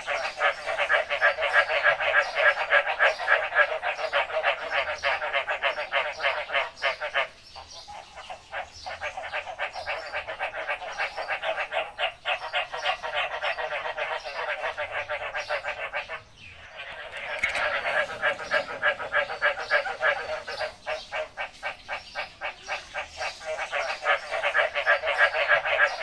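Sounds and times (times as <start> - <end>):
frogs calling in chorus: 0.0 - 26.0.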